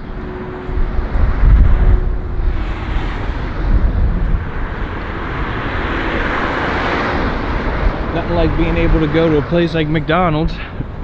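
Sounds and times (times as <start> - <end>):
vehicle rushing past: 0.0 - 10.2
traffic passing: 0.0 - 11.0
wind buffeting microphone: 0.0 - 11.0.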